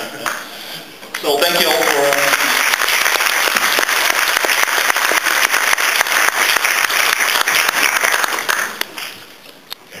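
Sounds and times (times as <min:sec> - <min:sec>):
audience applauding: 0:01.1 - 0:09.2.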